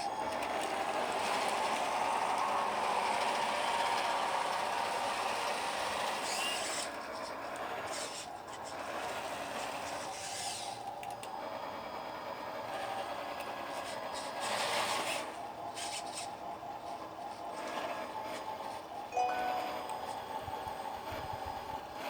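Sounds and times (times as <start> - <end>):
whine of small motors and gears: 0.0 - 22.0.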